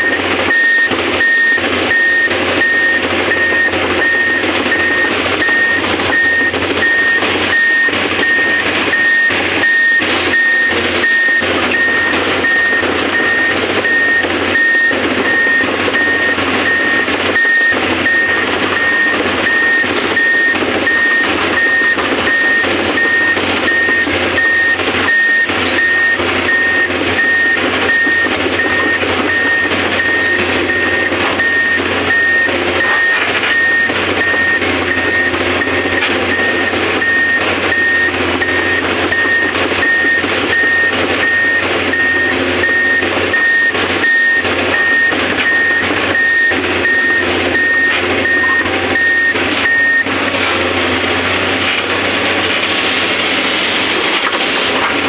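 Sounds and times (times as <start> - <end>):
machine noise: 0.0 - 55.0
warning alarm beeping: 0.0 - 55.0.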